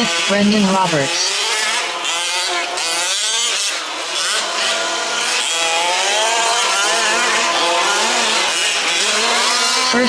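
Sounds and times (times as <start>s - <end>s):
small two-stroke engines revving: 0.0s - 10.0s.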